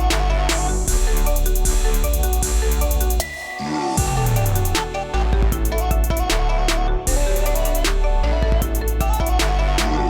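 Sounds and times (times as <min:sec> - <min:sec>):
electronic music ringtone: 0:00.0 - 0:10.0.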